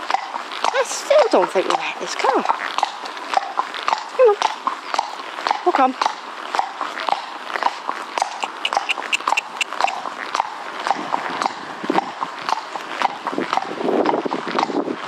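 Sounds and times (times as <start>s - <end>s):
hooves clip-clopping on a hard road: 0.0s - 15.0s.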